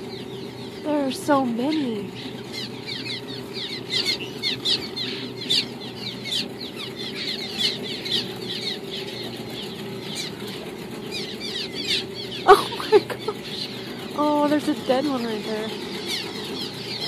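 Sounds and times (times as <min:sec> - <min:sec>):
low hum: 0:00.0 - 0:17.0
swallows chirping: 0:00.0 - 0:17.0.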